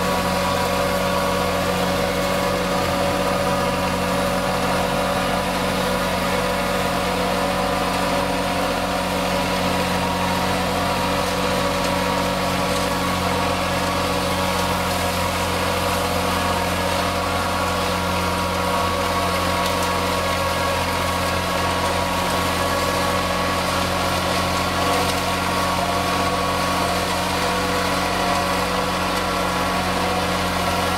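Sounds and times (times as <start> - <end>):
flail mower mulching grass: 0.0 - 30.9
tractor diesel engine running: 0.0 - 30.9.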